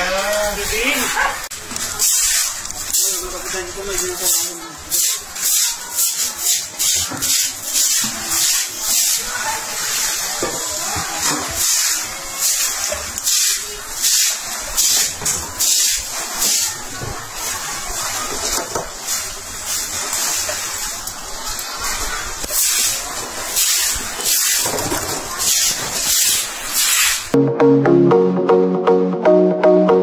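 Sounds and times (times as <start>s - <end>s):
water splashing on concrete: 0.0s - 27.3s.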